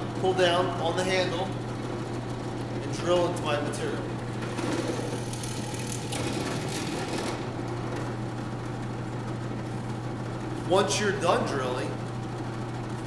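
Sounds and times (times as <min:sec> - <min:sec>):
drill press motor humming: 0:00.0 - 0:13.0.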